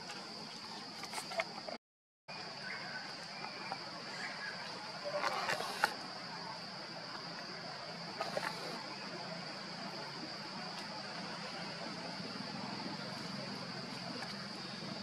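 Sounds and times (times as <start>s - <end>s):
insects droning: 0.0s - 15.0s
faint chirps: 0.1s - 15.0s.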